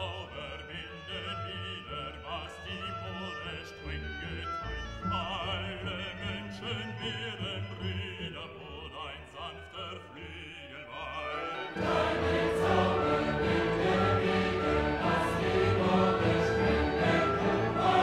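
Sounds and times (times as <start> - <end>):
choir and orchestra music: 0.0 - 18.0.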